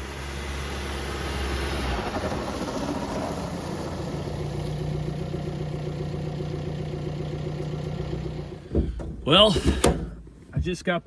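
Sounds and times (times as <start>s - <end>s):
diesel engine running: 0.0s - 10.5s.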